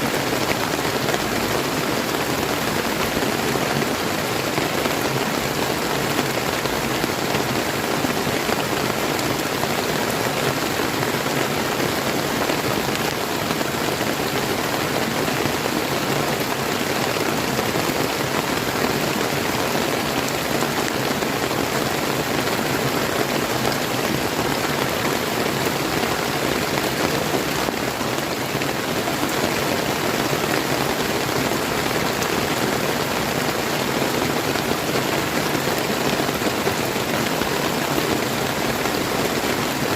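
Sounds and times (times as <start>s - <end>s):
river flowing: 0.0s - 39.9s
steady rain falling: 0.0s - 39.9s.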